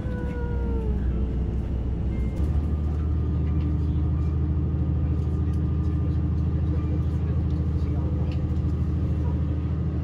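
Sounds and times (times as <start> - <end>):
diesel train engine rumbling: 0.0 - 10.0.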